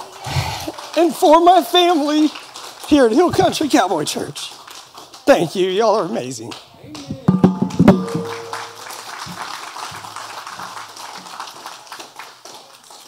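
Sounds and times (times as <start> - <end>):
congregation applauding: 0.0 - 13.0.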